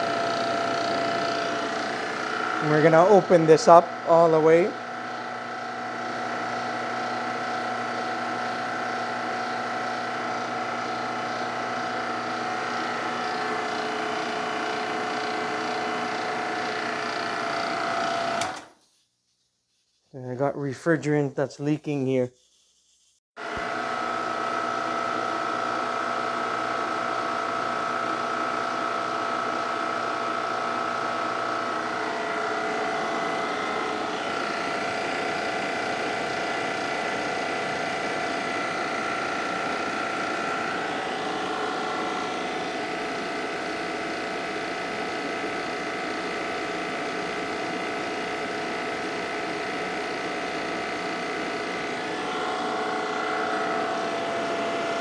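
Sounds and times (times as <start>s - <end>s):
compressor humming: 0.0s - 18.7s, 23.4s - 55.0s.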